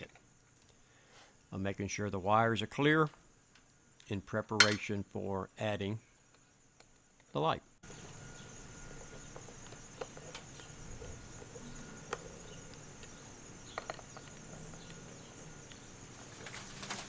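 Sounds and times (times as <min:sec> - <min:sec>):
crickets chirring: 0:00.0 - 0:17.0
faint low hum: 0:00.0 - 0:17.0.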